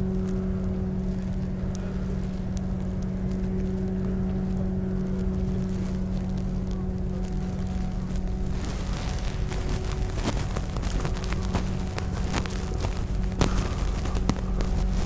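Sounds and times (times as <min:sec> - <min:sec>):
low engine hum: 0:00.0 - 0:15.0
low rumbling noise: 0:00.0 - 0:15.0.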